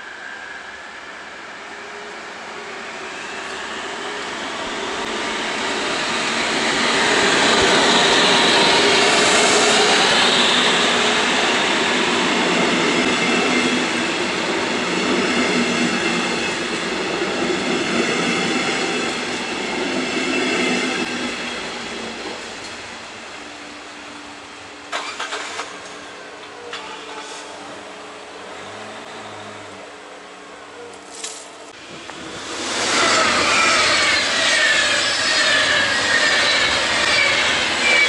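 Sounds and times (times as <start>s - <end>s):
diesel locomotive passing: 0.0s - 31.0s, 31.6s - 38.0s.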